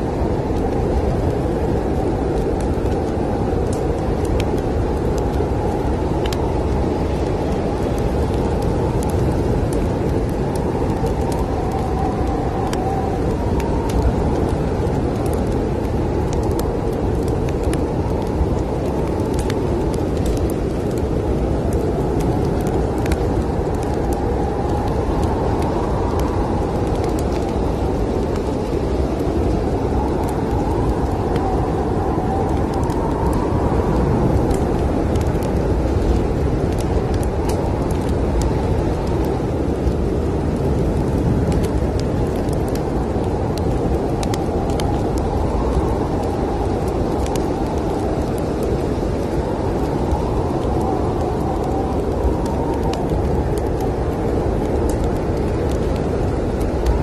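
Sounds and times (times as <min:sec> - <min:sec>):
snowstorm wind rumble: 0:00.0 - 0:57.0
wind whistle: 0:00.0 - 0:57.0
wood fire crackling: 0:00.0 - 0:57.0.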